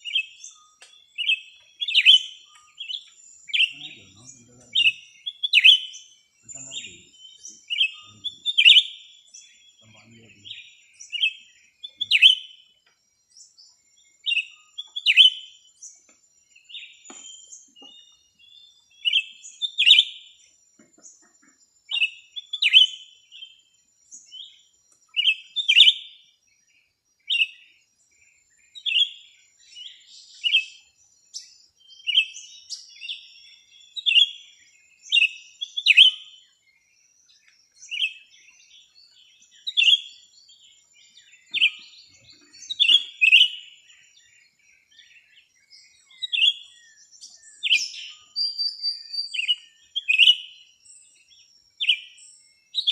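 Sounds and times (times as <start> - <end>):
songbird chirping: 0.0 - 52.9.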